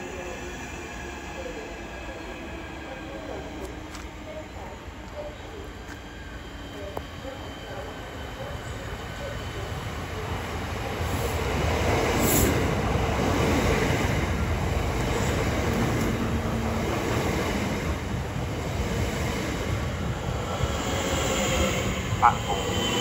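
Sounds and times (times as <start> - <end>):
train wheels on rail: 0.0 - 23.0.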